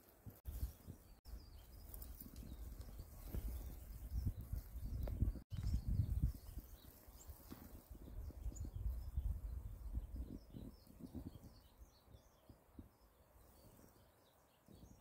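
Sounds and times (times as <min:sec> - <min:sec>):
small birds chirping: 0:00.0 - 0:15.0
wind rumble on microphone: 0:00.2 - 0:15.0.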